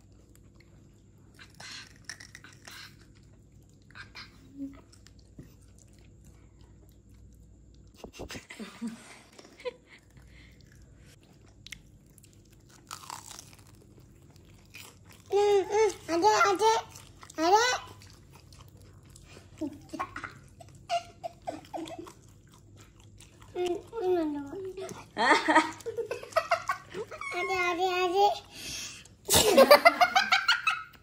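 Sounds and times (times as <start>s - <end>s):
crunchy chewing: 0.0s - 8.0s, 9.4s - 26.8s.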